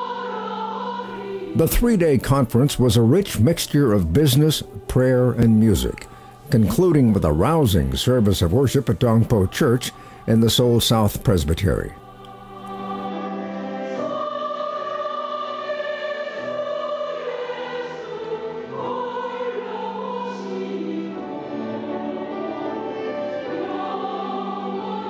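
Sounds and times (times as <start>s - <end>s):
women's choir singing: 0.0s - 25.0s.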